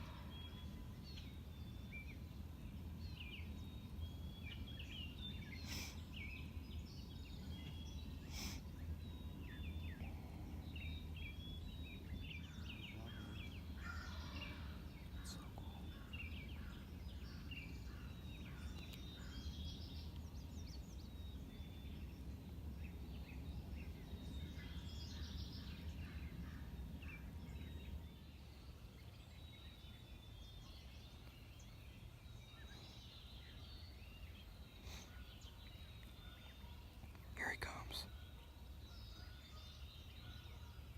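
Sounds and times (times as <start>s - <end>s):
faint low rumble: 0.0s - 40.9s
small birds chirping: 0.0s - 40.9s.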